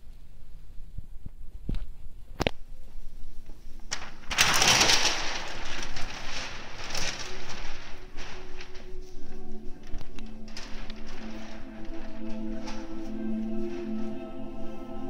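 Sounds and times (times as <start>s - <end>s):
paper rustling against microphone: 1.2s - 15.0s.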